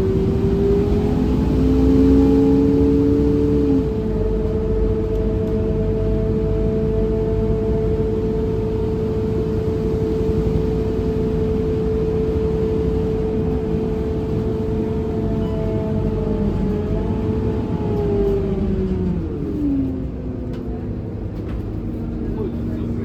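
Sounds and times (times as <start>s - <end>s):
bus engine and road rumble: 0.0s - 23.0s
steady whine: 0.0s - 23.0s.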